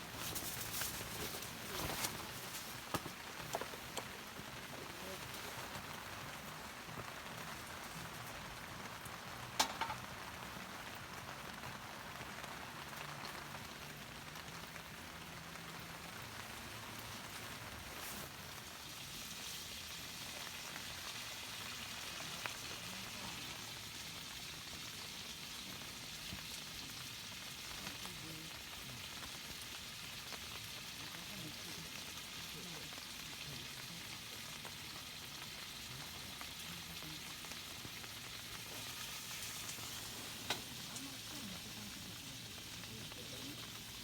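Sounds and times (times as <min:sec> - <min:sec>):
meat sizzling: 0:00.0 - 0:44.0
rain pattering: 0:00.0 - 0:44.0.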